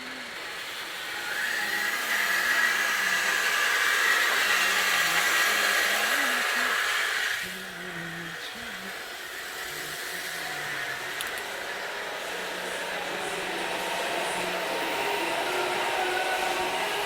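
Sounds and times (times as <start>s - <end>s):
machine hiss with high whine: 0.0s - 17.0s.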